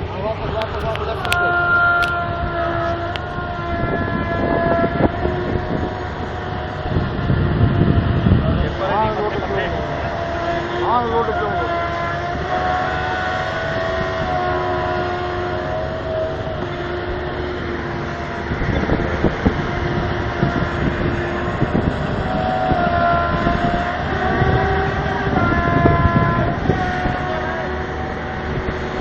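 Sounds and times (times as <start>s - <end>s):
heavy vehicle engine whine: 0.0s - 29.0s.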